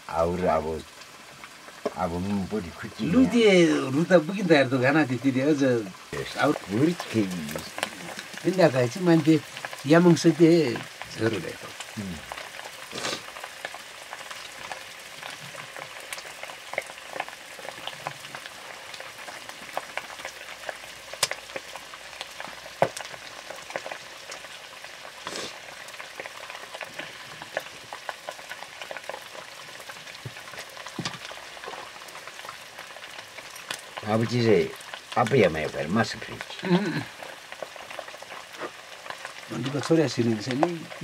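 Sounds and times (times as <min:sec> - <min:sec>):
steady hiss: 0:00.0 - 0:41.0
wood fire crackling: 0:00.0 - 0:41.0.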